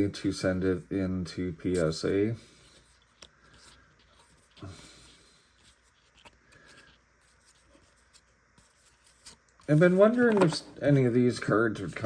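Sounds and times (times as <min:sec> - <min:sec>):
trading cards rustling and ticking: 0:01.6 - 0:12.0.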